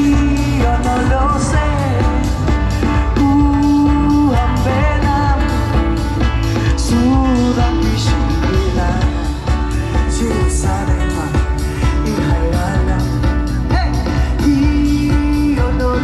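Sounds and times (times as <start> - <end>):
live band playing amplified music: 0.0 - 16.0
steady drum beat: 0.0 - 16.0.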